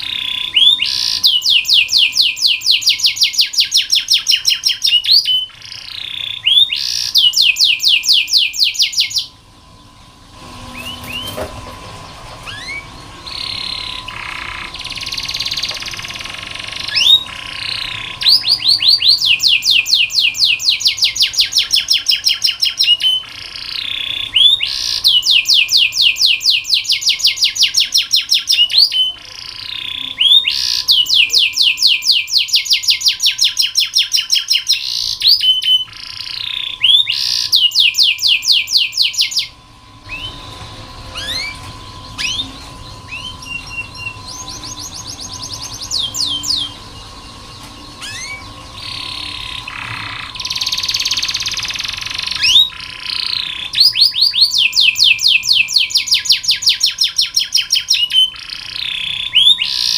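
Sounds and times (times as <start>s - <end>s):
canary singing fast trills: 0.0s - 11.4s, 12.0s - 59.9s
faint steady hum: 0.0s - 59.9s.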